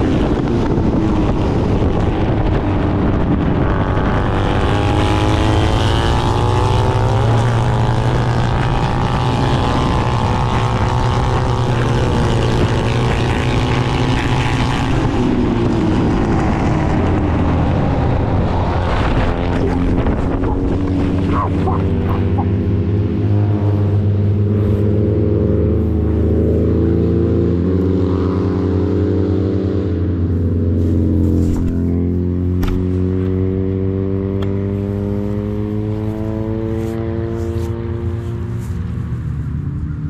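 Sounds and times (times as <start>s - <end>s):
racing motorcycle engine: 0.0s - 40.0s
wind rushing over microphone: 0.0s - 40.0s.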